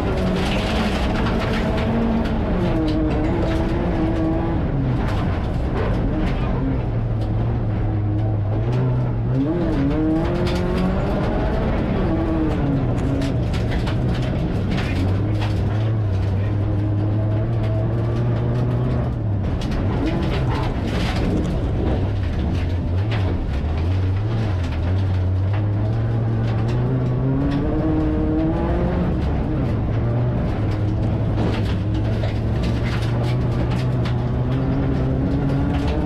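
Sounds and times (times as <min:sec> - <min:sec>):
race car engine from inside: 0:00.0 - 0:36.0.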